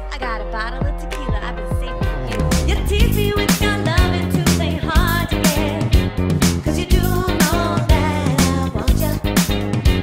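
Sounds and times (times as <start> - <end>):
woman singing: 0.0 - 9.6
disco-funk band playing: 0.8 - 10.0.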